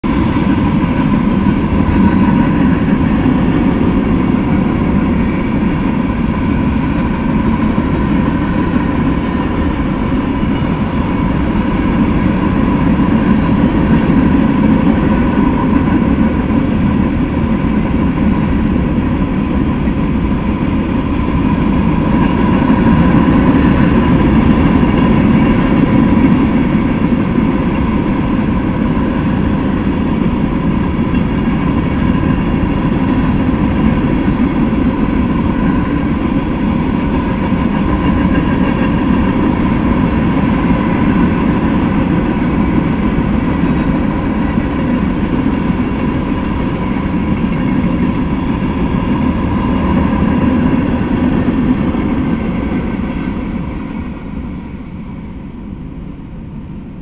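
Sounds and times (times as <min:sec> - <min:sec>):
freight train wheels on track: 0:00.0 - 0:57.0.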